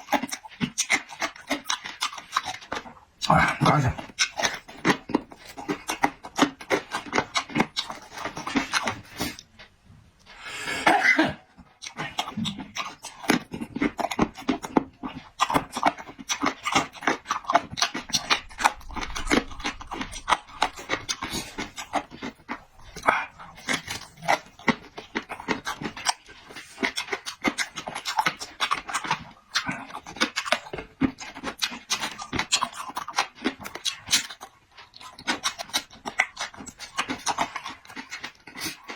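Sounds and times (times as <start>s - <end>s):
person chewing and lip-smacking: 0.0s - 38.9s.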